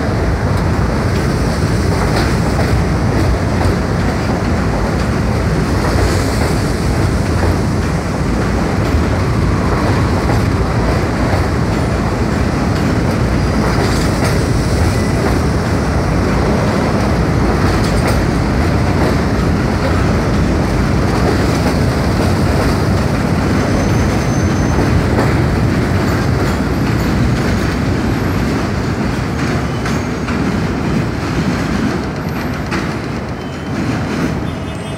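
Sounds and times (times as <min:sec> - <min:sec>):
subway train rumbling past: 0:00.0 - 0:34.9
wheels clickety-clack over rail: 0:00.0 - 0:34.9.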